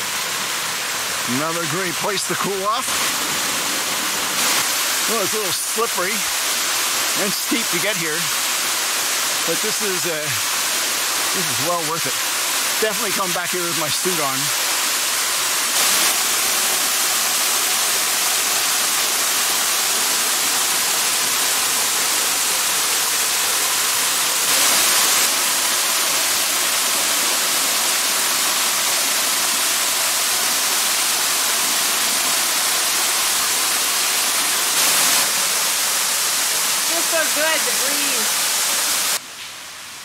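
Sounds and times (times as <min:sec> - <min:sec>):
waterfall rushing: 0:00.0 - 0:39.2.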